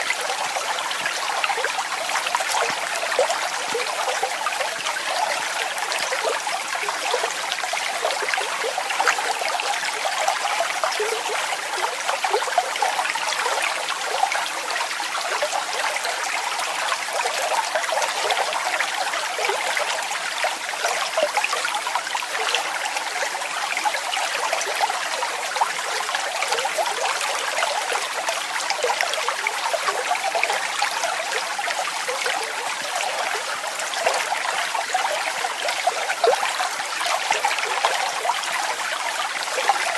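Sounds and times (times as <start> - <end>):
water cascading and splashing: 0.0 - 39.9.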